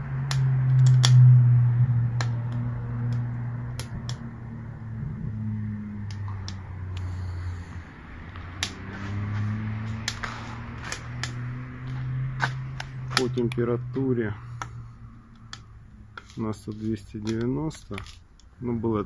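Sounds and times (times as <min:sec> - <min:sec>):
wood fire crackles: 0:00.0 - 0:01.2, 0:02.0 - 0:19.0.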